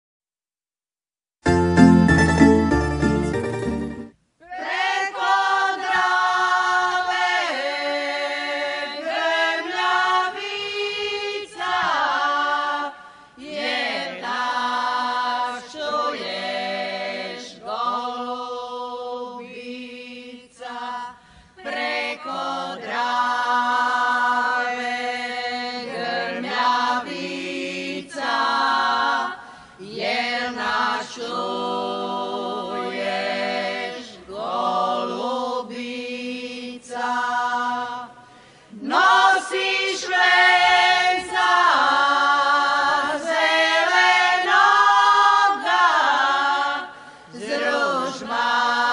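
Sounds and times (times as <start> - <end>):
women singing a cappella: 4.4 - 48.9.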